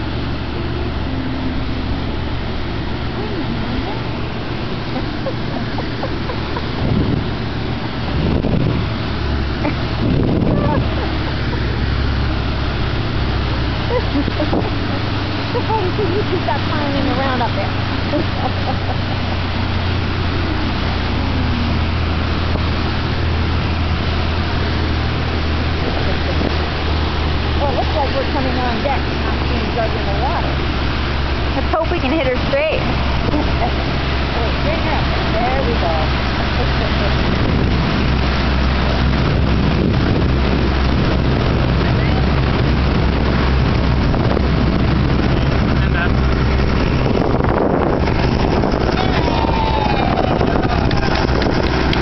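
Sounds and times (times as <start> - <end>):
boat motor drone: 0.0 - 52.0
low rumble: 0.0 - 52.0
wind buffeting microphone: 0.0 - 52.0.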